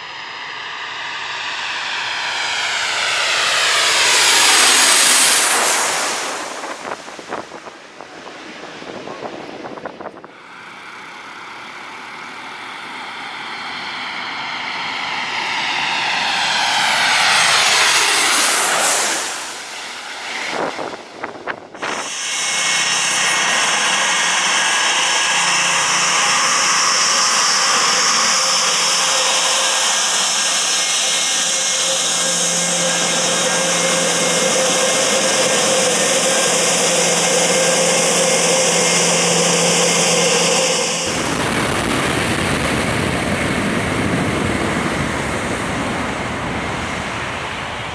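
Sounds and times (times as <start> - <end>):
jet airliner passing overhead: 0.0 - 47.9
steady loud jet engine noise: 0.0 - 47.9.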